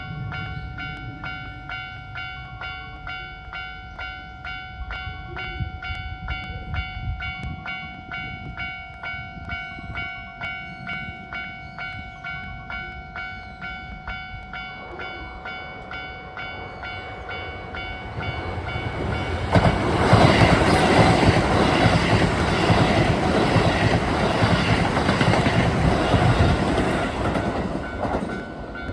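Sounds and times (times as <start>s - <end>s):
train passing at speed: 0.0s - 28.9s.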